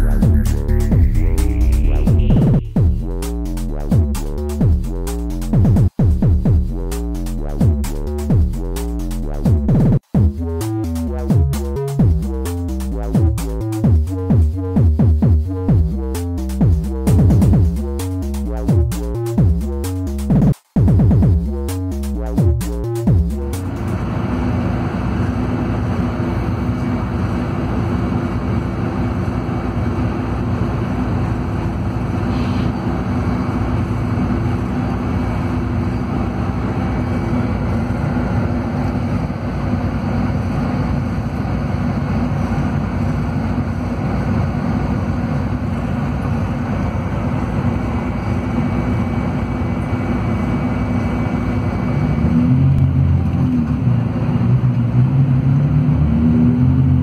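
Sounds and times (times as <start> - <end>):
diesel coach engine droning: 0.0 - 57.0.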